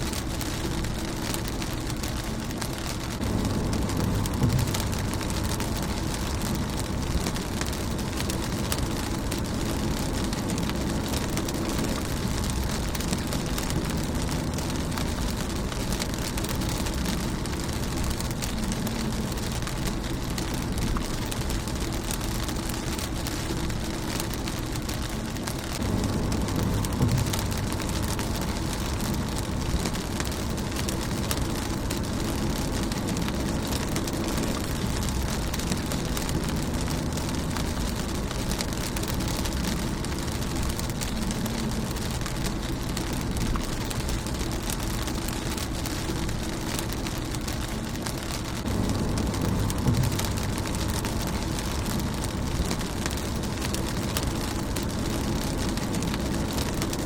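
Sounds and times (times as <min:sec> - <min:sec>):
low rumble: 0:00.0 - 0:57.0
rain on car windscreen: 0:00.0 - 0:57.0.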